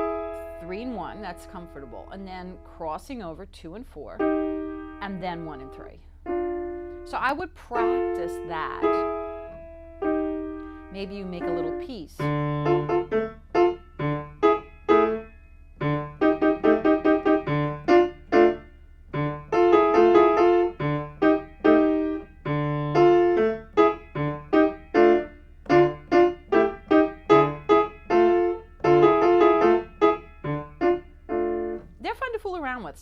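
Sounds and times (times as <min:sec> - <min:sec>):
spooky minor-key piano piece: 0:00.0 - 0:02.7, 0:04.2 - 0:32.1.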